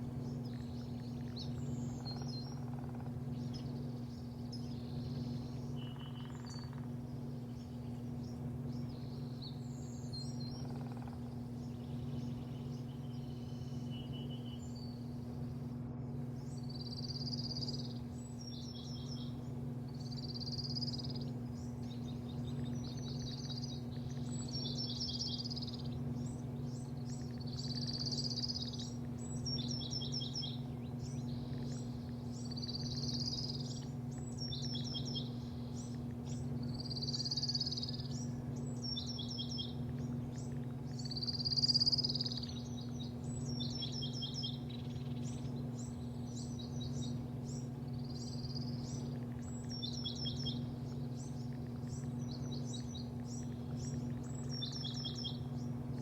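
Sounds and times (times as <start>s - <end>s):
bird singing: 0.0s - 56.0s
low mechanical hum: 0.0s - 56.0s.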